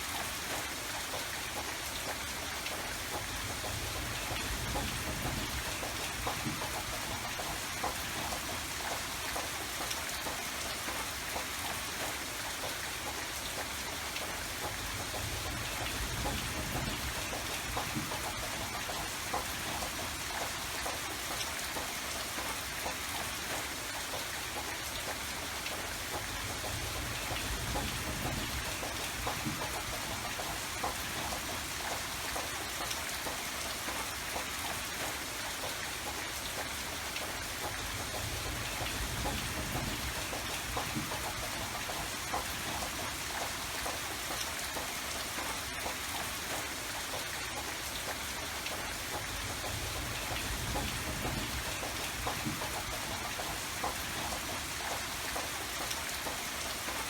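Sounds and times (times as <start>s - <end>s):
rain hissing: 0.0s - 57.0s
raindrops pattering on surfaces: 0.0s - 57.0s.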